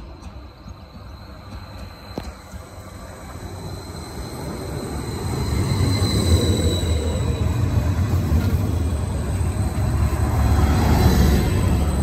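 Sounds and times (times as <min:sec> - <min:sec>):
train passing close by: 0:00.0 - 0:12.0
thin high whine: 0:01.8 - 0:12.0.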